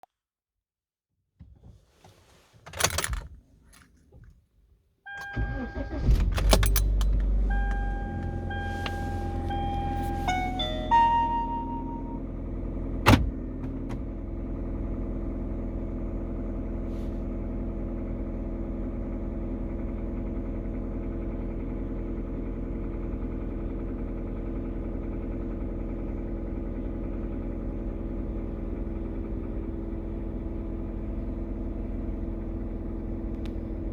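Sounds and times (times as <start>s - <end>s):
car engine idling: 5.2s - 33.9s.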